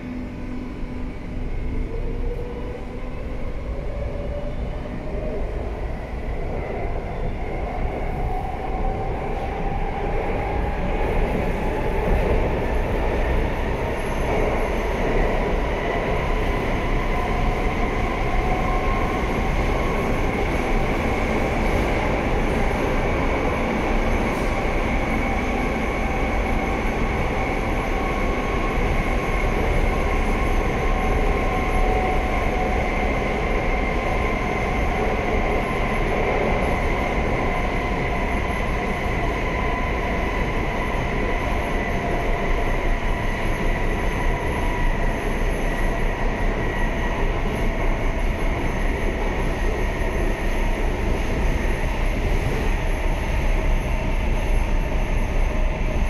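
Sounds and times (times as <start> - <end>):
rumble of wheels on rail: 0.0 - 56.0.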